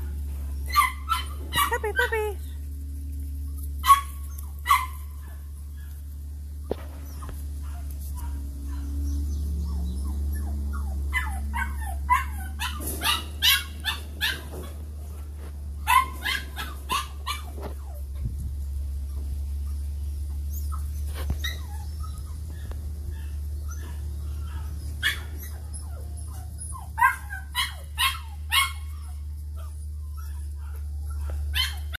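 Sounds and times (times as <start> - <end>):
puppies yipping and barking: 0.0 - 32.0.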